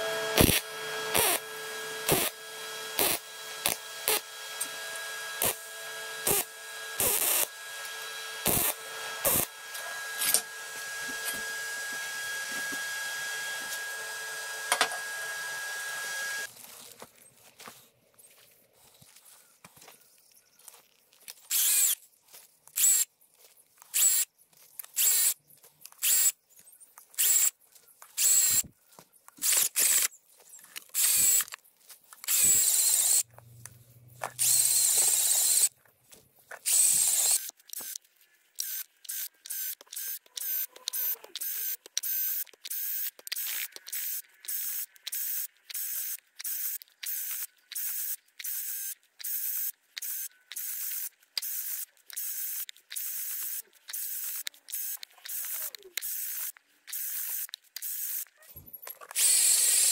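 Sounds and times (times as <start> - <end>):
cordless drill spinning auger in soil: 0.0 - 59.9.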